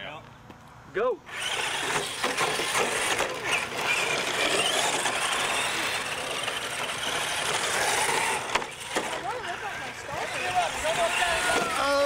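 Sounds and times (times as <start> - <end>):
toy truck motors whirring: 1.3 - 12.0.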